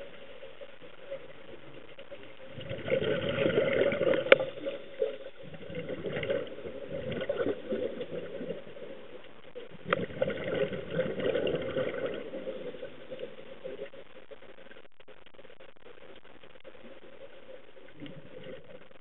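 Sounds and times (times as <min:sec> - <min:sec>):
underwater bubbles rushing: 0:00.0 - 0:14.8, 0:15.8 - 0:19.0.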